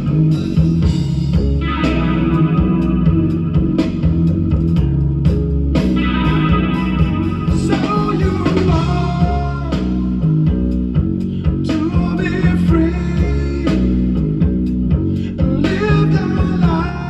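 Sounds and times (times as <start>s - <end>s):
guitar-driven rock music: 0.0s - 17.0s.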